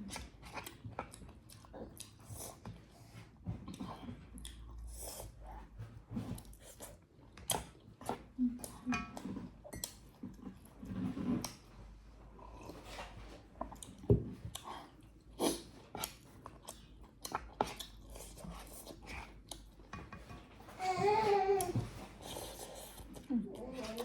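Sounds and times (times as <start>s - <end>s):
person chewing food: 0.0s - 20.7s, 21.6s - 24.0s.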